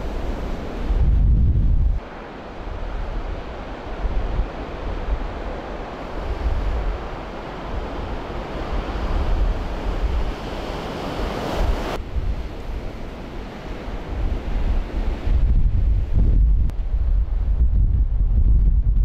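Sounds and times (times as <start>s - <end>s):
strong wind gusts: 0.0s - 19.0s
wind buffeting microphone: 0.0s - 19.0s.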